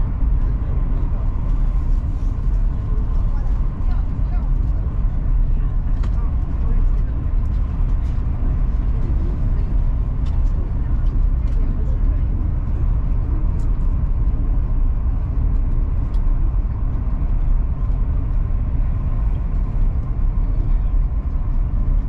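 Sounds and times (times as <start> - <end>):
train rumble at speed: 0.0 - 22.0.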